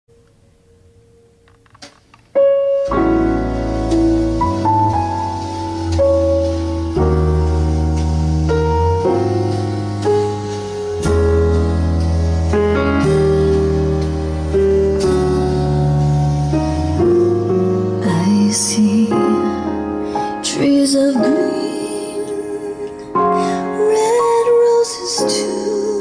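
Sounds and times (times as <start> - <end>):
solo piano chords: 0.1 - 26.0.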